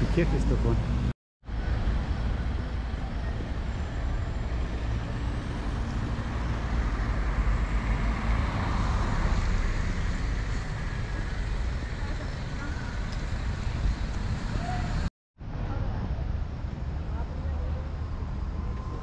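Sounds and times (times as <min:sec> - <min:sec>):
road noise: 0:00.0 - 0:19.0
vehicle engine rumble: 0:00.0 - 0:19.0.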